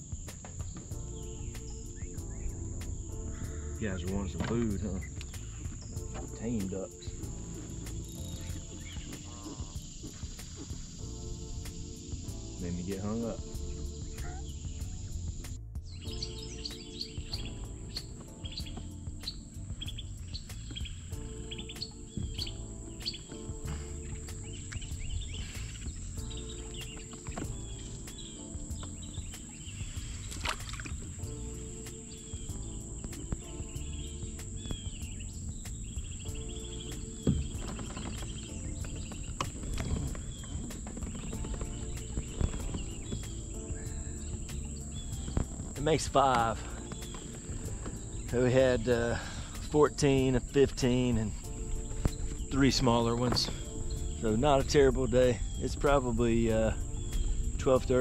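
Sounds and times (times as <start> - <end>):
bird chirping: 0.0 - 58.0
insects singing: 0.0 - 58.0.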